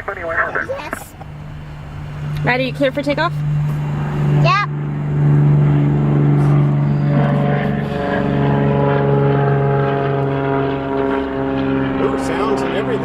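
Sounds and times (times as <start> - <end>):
propeller airplane engine droning: 0.0 - 13.0.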